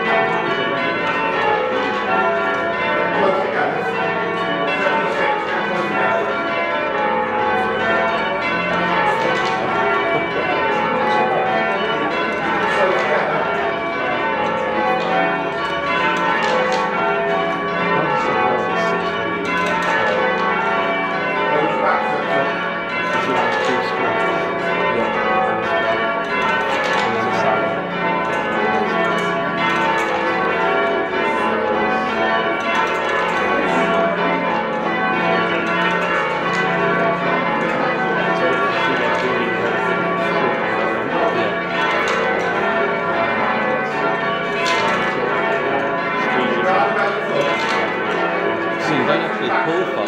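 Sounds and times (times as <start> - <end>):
church bells ringing: 0.0 - 50.0.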